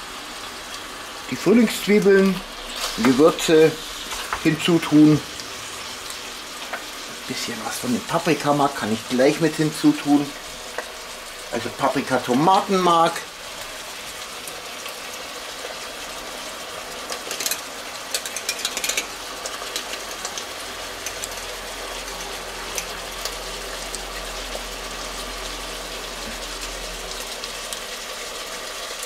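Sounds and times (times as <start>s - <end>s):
chicken sizzling in a pot: 0.0s - 29.0s.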